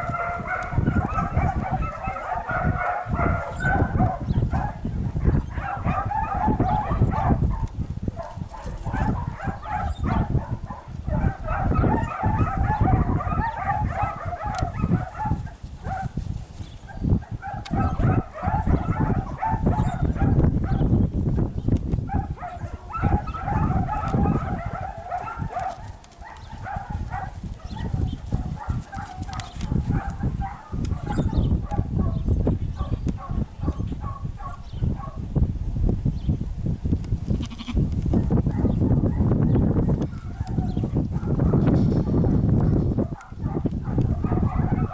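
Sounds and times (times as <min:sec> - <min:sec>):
puppy yipping barks: 0:00.0 - 0:16.1, 0:16.9 - 0:20.9, 0:22.1 - 0:32.2, 0:32.8 - 0:35.2, 0:38.2 - 0:41.7, 0:42.6 - 0:44.9
wind rumble on microphone: 0:00.0 - 0:44.9.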